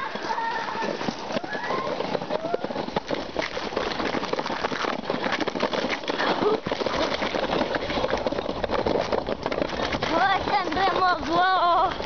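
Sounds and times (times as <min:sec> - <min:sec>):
crunching and scraping on snow: 0:00.0 - 0:12.0.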